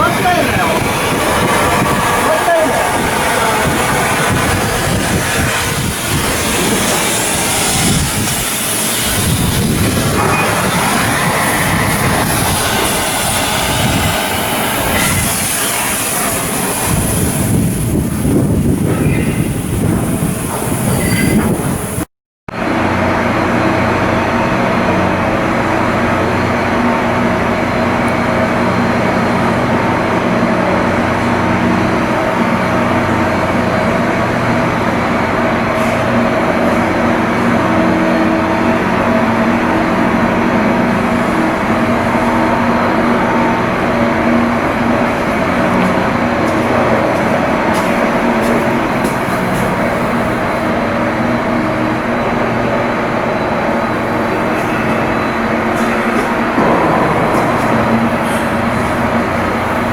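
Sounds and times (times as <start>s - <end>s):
heavy machinery humming: 0.0s - 22.0s, 22.6s - 59.9s.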